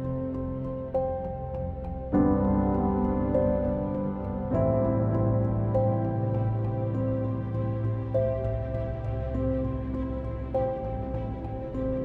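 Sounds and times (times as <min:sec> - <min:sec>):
sustained chords music: 0:00.0 - 0:12.0.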